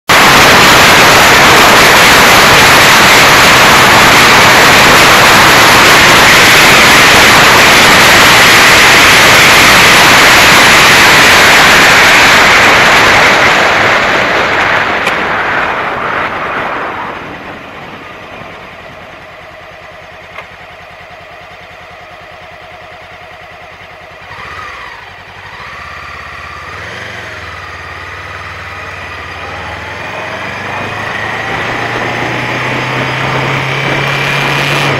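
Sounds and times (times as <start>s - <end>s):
wind noise on microphone: 0.1s - 20.2s, 23.7s - 34.9s
motorcycle engine running: 0.1s - 34.9s.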